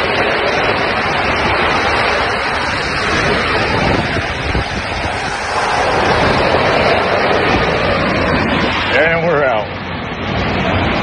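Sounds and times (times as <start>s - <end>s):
water and air rushing on microphone: 0.0s - 11.0s.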